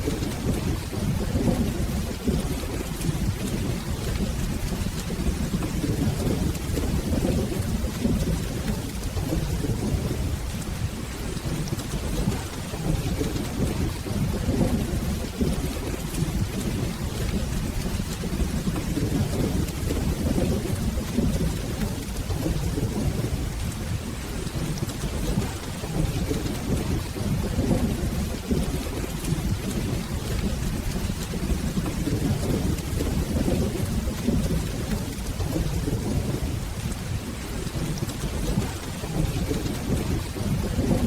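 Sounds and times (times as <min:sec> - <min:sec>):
rolling thunder: 0:00.0 - 0:41.0
steady rain: 0:00.0 - 0:41.0.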